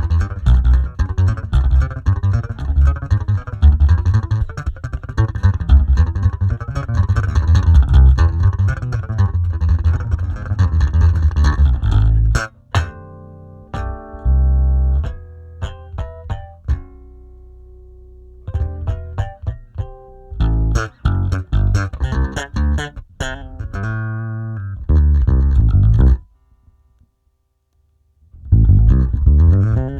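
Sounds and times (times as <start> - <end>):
electric bass guitar: 0.0 - 26.3, 28.3 - 29.9.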